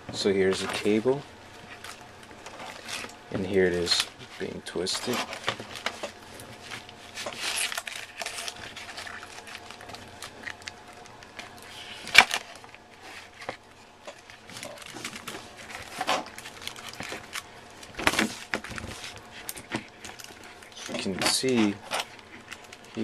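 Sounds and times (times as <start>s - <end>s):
cable crinkling and rustling: 0.1s - 23.0s.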